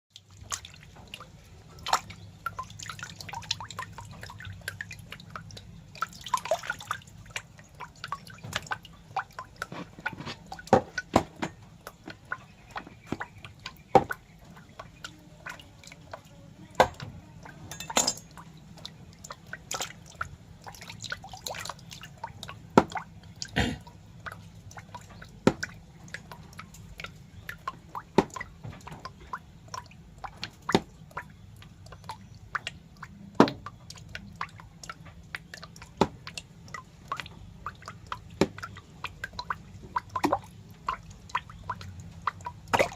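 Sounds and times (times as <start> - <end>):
wet clicks and drips: 0.1 - 42.9.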